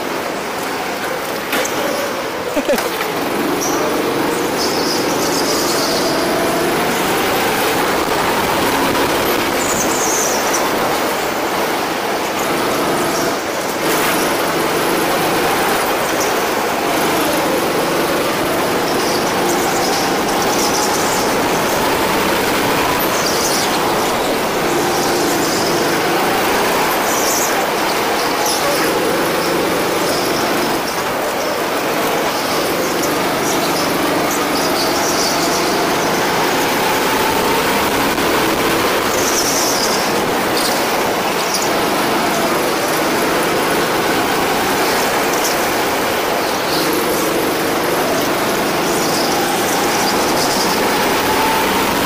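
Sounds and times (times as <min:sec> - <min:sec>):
go-kart engine revving: 0:00.0 - 0:52.0
tyre squeals: 0:01.6 - 0:52.0.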